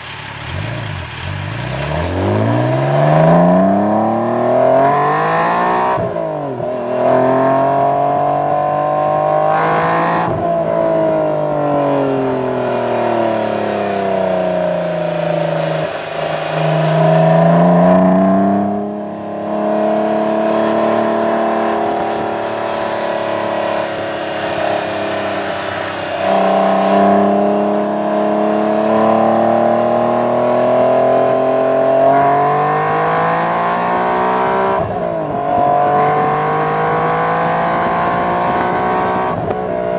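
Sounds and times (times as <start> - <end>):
car exhaust note revving: 0.4 - 39.9.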